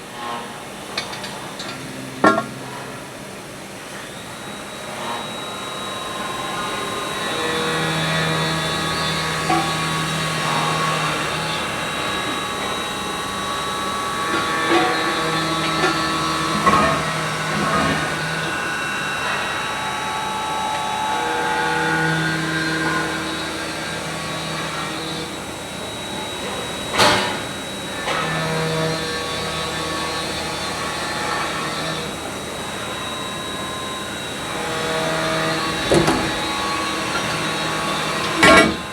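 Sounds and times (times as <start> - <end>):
machine motor hum and whine: 0.0 - 38.9.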